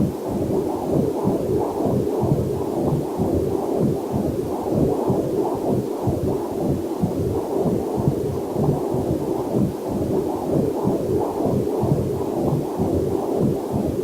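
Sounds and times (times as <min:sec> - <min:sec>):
fetal heartbeat whooshing pulse: 0:00.0 - 0:14.0.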